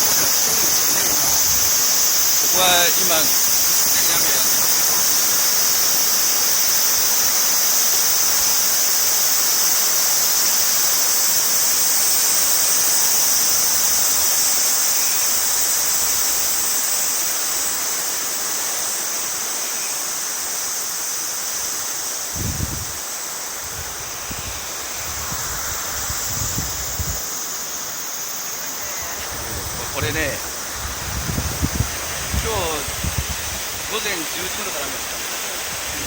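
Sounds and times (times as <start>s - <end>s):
floodwater rushing: 0.0s - 19.4s, 22.2s - 36.0s.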